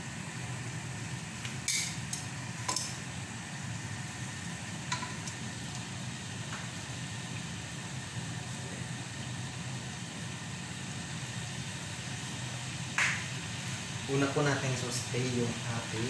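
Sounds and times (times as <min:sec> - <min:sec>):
hot oil sizzling: 0:00.0 - 0:16.0.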